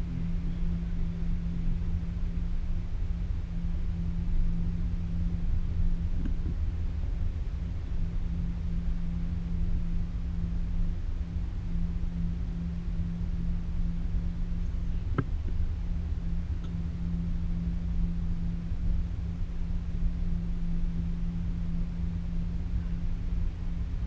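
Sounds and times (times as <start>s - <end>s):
cable car mechanical hum: 0.0s - 24.0s.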